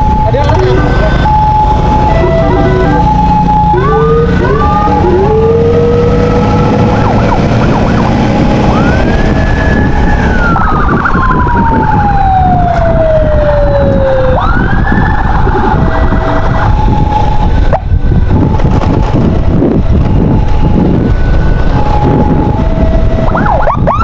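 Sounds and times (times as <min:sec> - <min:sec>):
ambulance siren: 0:00.0 - 0:24.0
heavy engine and road rumble: 0:00.0 - 0:24.0.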